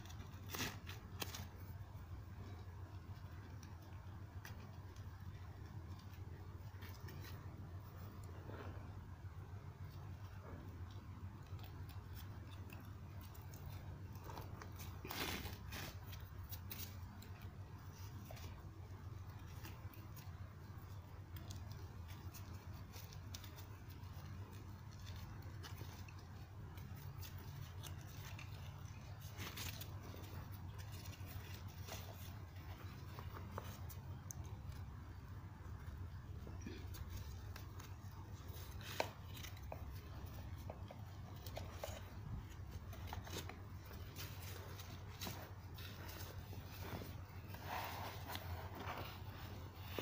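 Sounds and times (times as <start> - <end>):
faint rustling of webbing: 0.0 - 50.0
steady low hum: 0.0 - 50.0.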